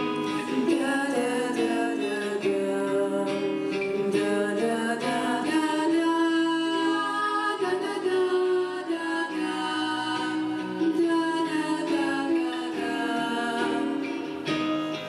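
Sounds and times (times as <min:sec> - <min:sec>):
women singing wordless harmony: 0:00.0 - 0:14.5.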